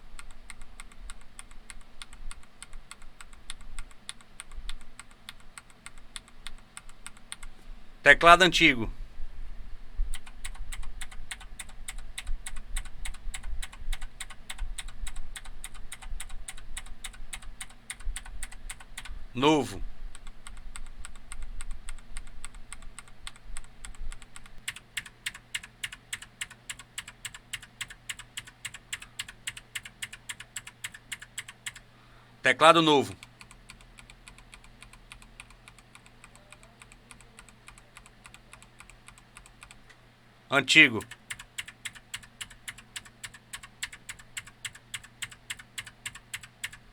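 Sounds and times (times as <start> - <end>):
clicky keyboard typing: 0.2 - 7.6, 10.1 - 31.9, 33.2 - 40.0, 40.9 - 46.9.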